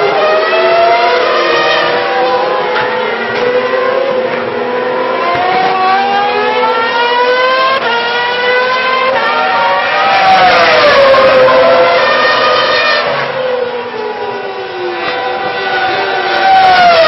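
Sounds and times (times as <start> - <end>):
racing car engines at high revs: 0.0 - 17.0.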